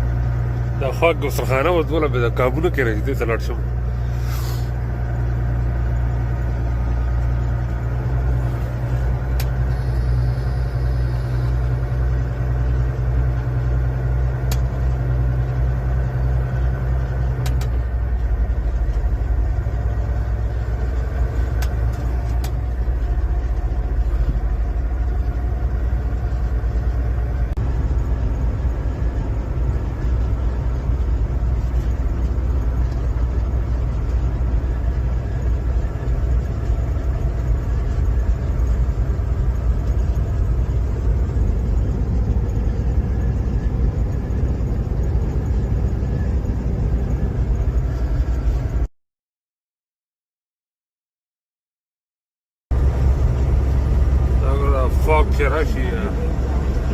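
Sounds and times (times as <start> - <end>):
road noise: 0.0 - 48.9, 52.7 - 56.9
vehicle engine drone: 0.0 - 48.9, 52.7 - 56.9.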